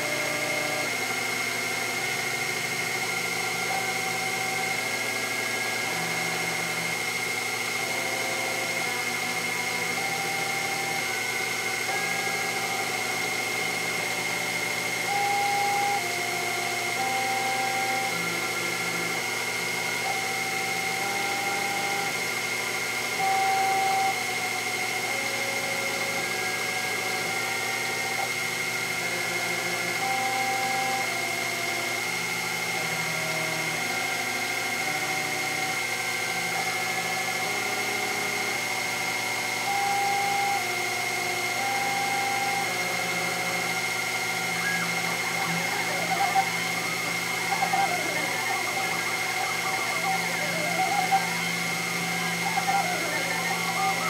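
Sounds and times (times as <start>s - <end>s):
milling machine high whine: 0.0s - 54.0s
stepper motor tones: 0.0s - 54.0s.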